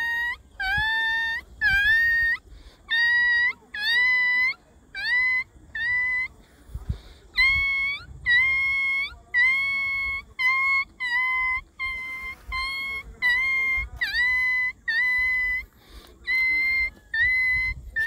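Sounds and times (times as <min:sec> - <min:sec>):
puppy whining: 0:00.0 - 0:06.3, 0:07.4 - 0:18.0.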